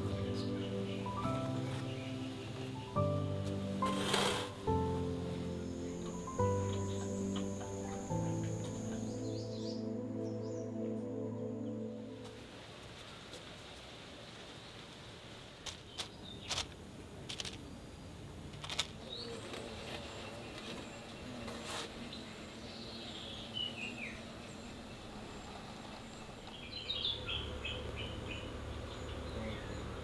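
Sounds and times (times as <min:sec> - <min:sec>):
small birds chirping: 0:00.0 - 0:10.7, 0:15.7 - 0:30.0.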